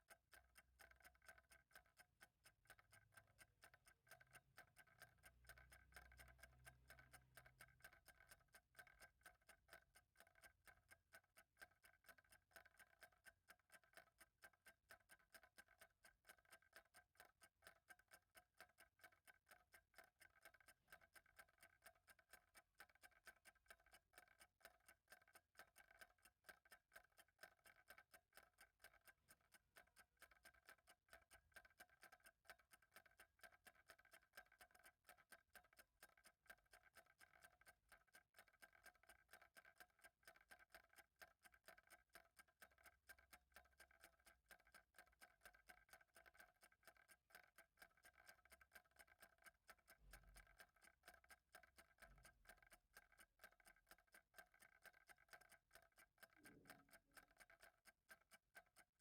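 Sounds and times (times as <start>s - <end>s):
faint clock ticking: 0.0s - 59.0s.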